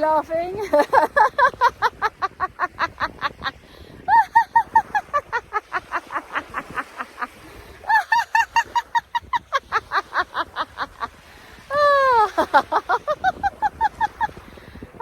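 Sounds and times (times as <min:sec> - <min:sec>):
woman laughing rhythmically: 0:00.6 - 0:14.8.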